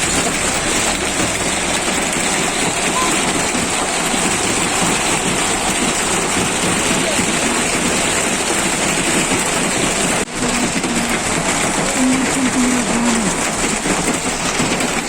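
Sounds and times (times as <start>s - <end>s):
hail and heavy rain clattering: 0.0s - 15.0s.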